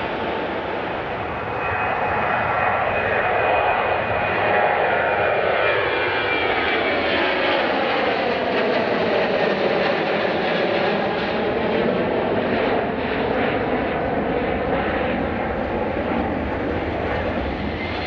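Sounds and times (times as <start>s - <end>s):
jet engines passing by: 0.0s - 18.0s.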